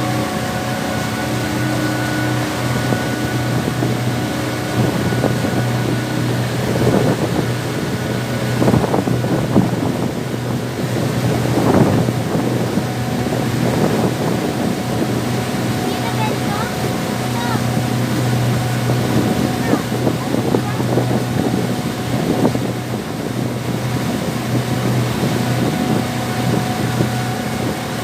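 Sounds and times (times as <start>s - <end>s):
boat engine running: 0.0s - 28.0s
rushing water: 0.0s - 28.0s
wind on microphone: 0.0s - 28.0s.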